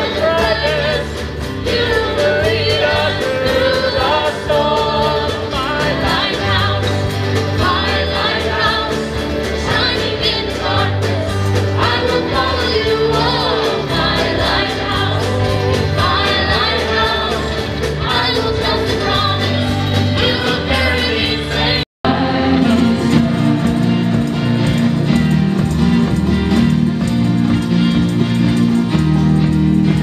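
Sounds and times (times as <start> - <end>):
choir and singers singing: 0.0 - 24.9
low bass notes: 0.0 - 30.0
worship band playing: 0.0 - 30.0.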